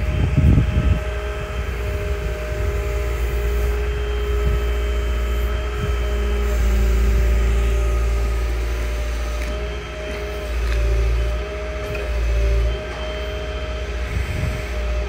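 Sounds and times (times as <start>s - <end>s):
diesel excavator engine running: 0.0s - 15.0s
engine whine: 0.0s - 15.0s.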